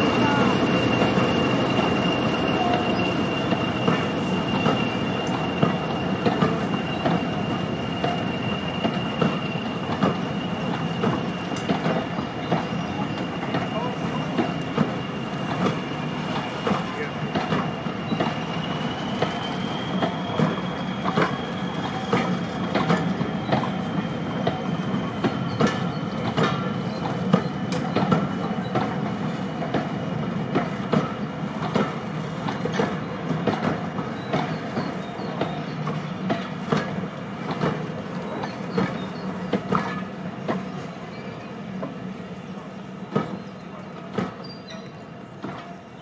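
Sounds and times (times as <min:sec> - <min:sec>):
train wheels clicking over rail joints: 0:00.0 - 0:46.0.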